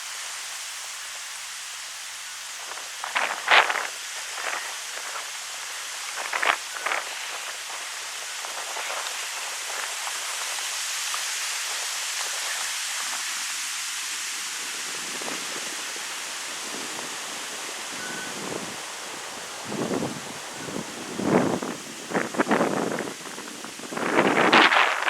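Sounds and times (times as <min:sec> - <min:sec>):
wind through tree leaves: 0:00.0 - 0:25.0.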